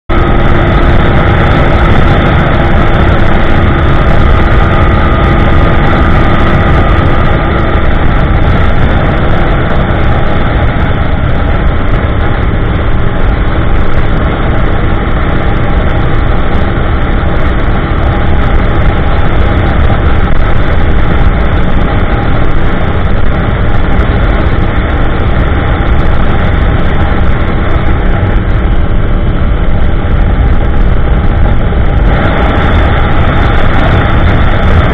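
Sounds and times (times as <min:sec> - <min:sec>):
wind rushing over microphone: 0:00.0 - 0:34.9
motorcycle engine cruising: 0:00.1 - 0:34.9.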